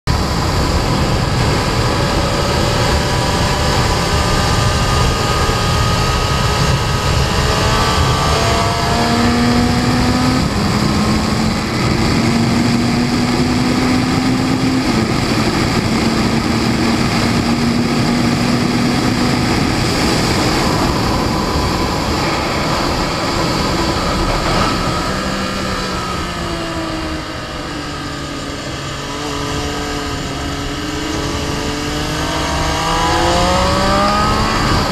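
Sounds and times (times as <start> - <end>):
motorcycle engine at speed: 0.0 - 34.9
wind rush: 0.1 - 34.9.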